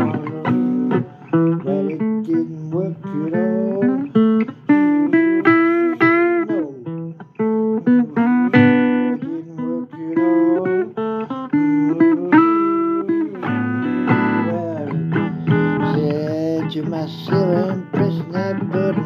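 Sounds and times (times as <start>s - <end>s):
blues guitar: 0.0s - 19.0s.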